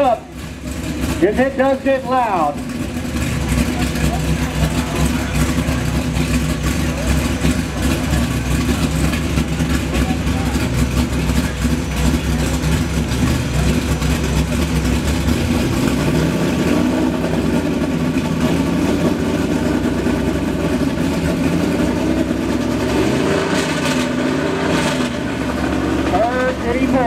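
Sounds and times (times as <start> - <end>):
truck engine running loud: 0.0 - 27.0.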